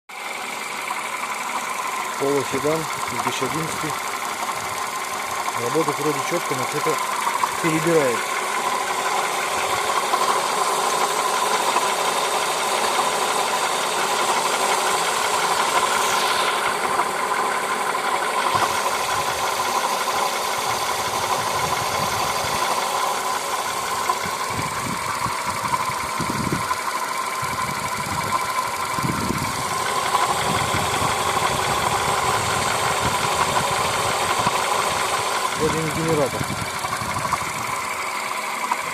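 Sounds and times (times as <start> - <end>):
car engine idling: 0.1 - 38.9
uneven engine noise: 0.1 - 38.9.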